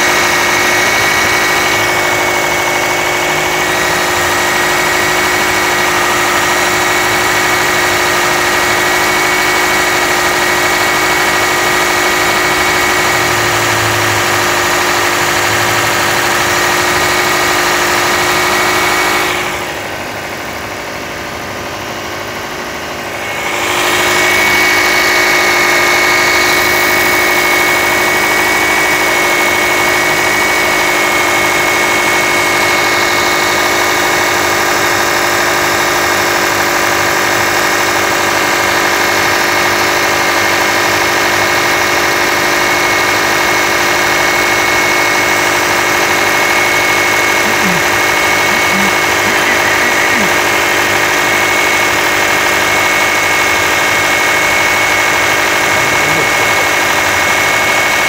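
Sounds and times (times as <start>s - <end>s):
steady whine: 0.0s - 35.0s, 44.3s - 58.0s
car engine idling: 0.0s - 58.0s.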